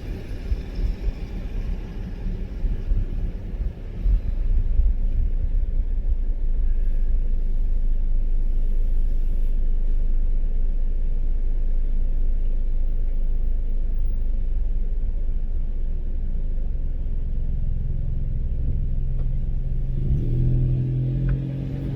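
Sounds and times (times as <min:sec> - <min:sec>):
car driving on road rumble: 0:00.0 - 0:21.9.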